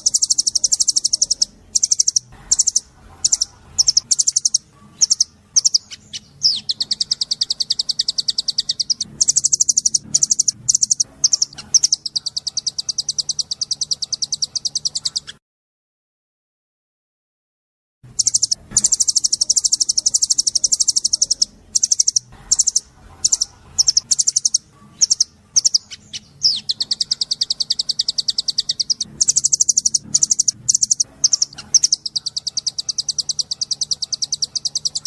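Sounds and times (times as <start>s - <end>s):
bird singing fast trills: 0.0s - 15.4s, 18.1s - 35.0s.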